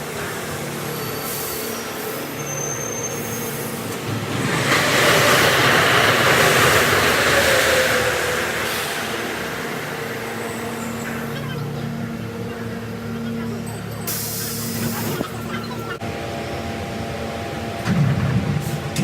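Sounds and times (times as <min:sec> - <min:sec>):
subway train rushing past: 0:00.0 - 0:19.0.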